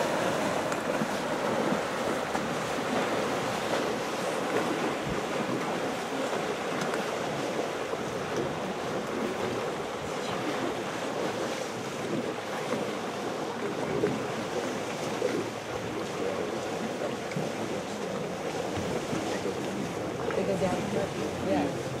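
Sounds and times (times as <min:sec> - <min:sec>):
elephants sloshing through water: 0:00.0 - 0:22.0.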